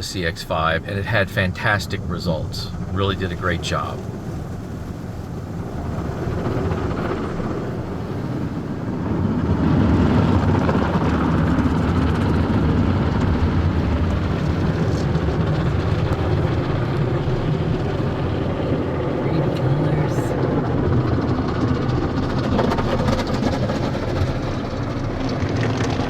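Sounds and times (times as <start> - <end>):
car wash rushing noise: 0.0 - 26.0.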